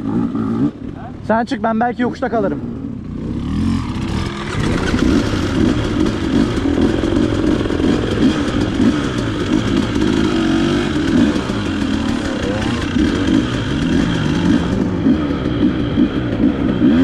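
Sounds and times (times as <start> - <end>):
dirt bike engine revving: 0.0 - 1.0, 2.6 - 17.0.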